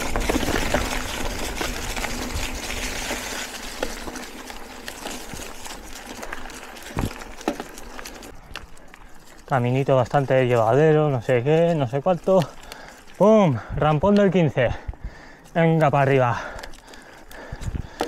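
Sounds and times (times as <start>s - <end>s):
bike rattling: 0.0s - 18.0s
bike tyres on dirt trail: 0.0s - 18.0s.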